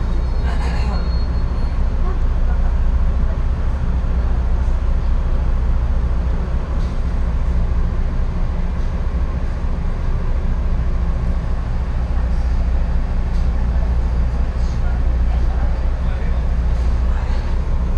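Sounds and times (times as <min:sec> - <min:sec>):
train rumbling from inside: 0:00.0 - 0:17.9.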